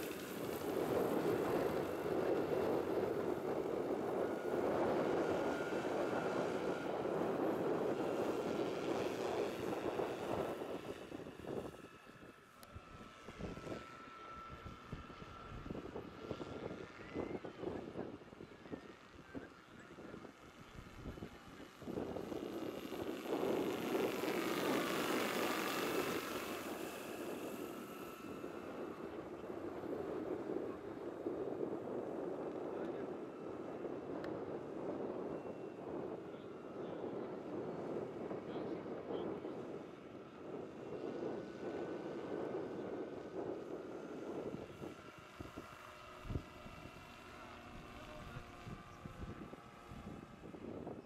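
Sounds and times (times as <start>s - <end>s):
electric drive whine: 0.0s - 51.0s
model helicopter rotor whooshing: 0.0s - 51.0s.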